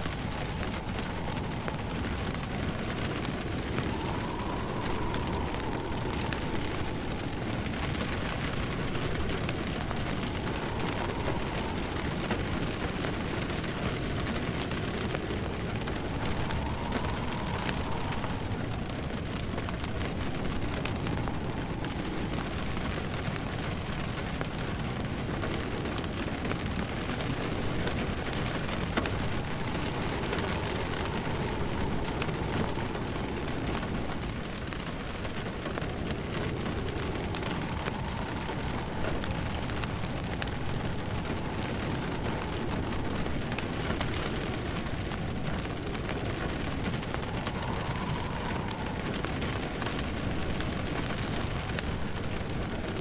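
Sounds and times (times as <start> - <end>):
rain hissing: 0.0 - 53.0
wood fire crackling: 0.0 - 53.0.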